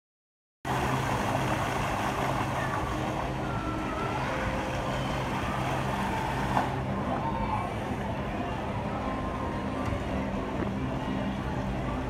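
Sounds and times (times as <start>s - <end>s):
fountain water splashing: 0.7s - 12.0s.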